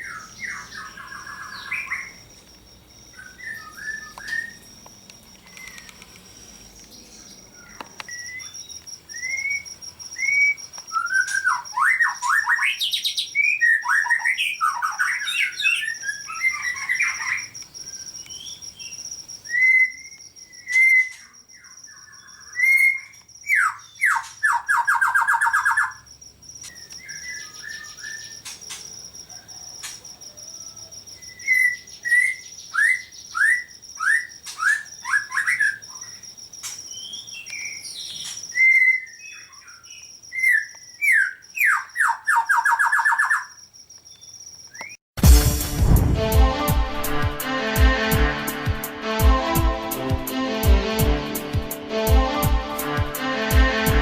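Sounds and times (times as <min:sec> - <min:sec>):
songbirds chirping and singing: 0:00.0 - 0:45.0.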